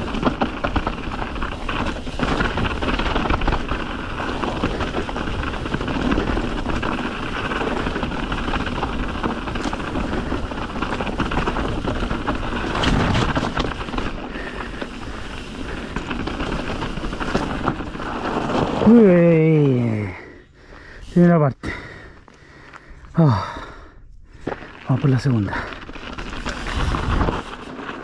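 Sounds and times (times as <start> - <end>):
bike rattling over rough ground: 0.0 - 28.0
bike tyre noise on dirt: 0.0 - 28.0.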